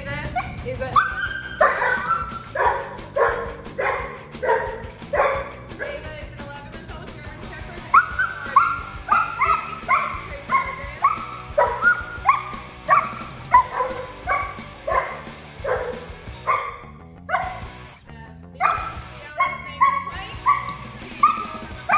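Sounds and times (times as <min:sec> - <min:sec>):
background music: 0:00.0 - 0:21.9
dog barking: 0:00.4 - 0:06.0, 0:07.9 - 0:17.7, 0:18.6 - 0:21.9.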